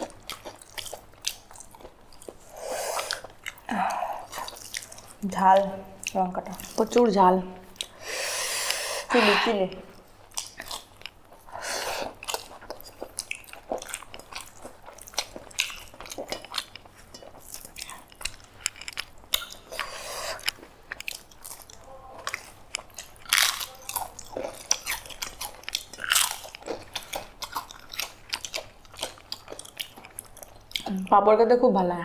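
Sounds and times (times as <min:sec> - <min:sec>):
crisp papadum being chewed: 0:00.0 - 0:31.3.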